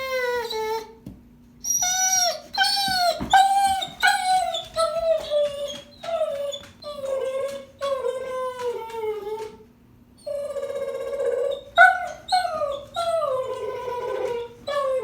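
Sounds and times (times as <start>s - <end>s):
dog howling: 1.8s - 9.6s, 10.2s - 15.0s.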